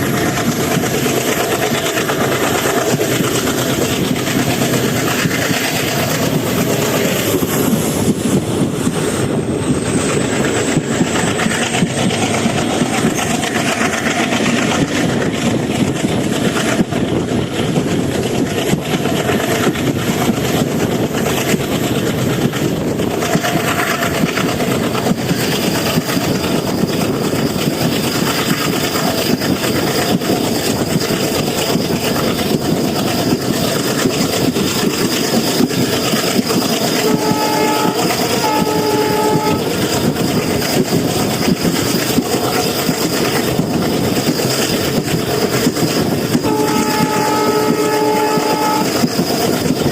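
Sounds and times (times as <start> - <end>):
diesel locomotive engine chugging: 0.0 - 49.9.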